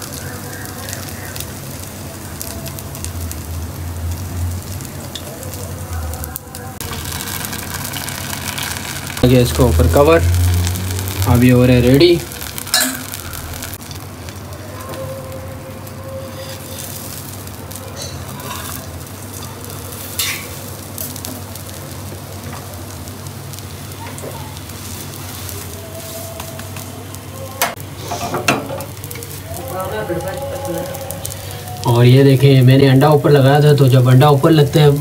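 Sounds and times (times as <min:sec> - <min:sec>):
bun sizzling on griddle: 0:00.0 - 0:35.0.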